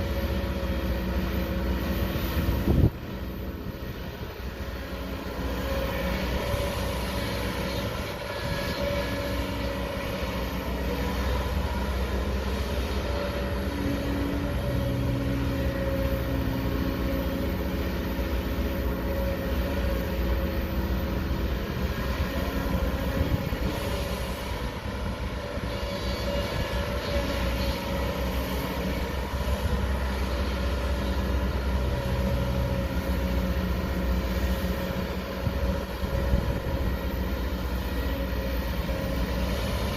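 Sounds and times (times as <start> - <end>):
excavator diesel engine drone: 0.0 - 39.9.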